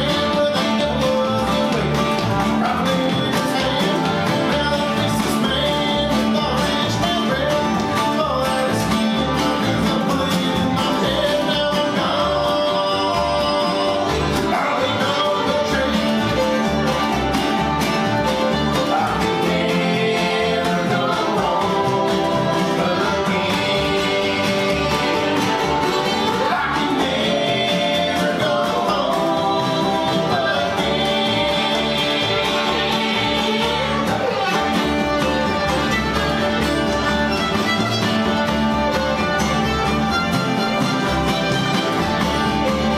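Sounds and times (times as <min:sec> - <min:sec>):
bluegrass band playing: 0:00.0 - 0:42.9.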